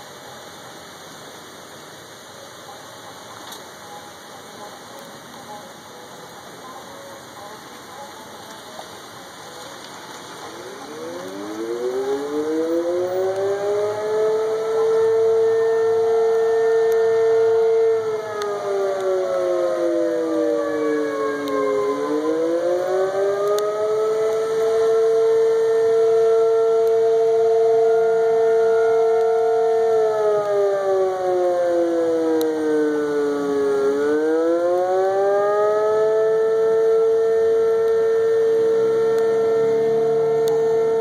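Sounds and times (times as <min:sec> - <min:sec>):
warning siren wailing: 0:02.4 - 0:41.0.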